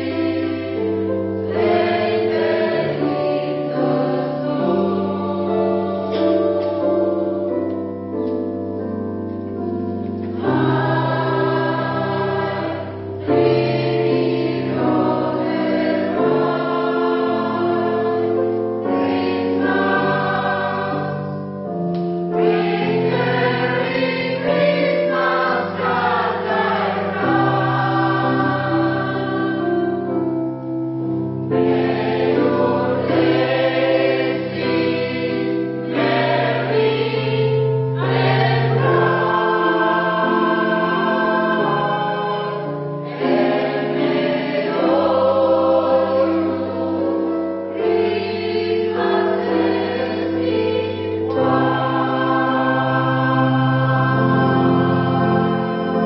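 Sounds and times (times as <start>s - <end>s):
choir singing in parts: 0.0s - 8.3s, 9.9s - 30.4s, 31.0s - 56.0s.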